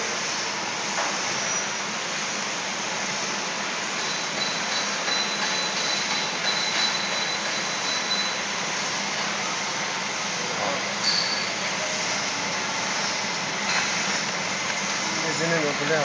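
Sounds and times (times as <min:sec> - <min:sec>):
cup filling machine running: 0:00.0 - 0:16.0.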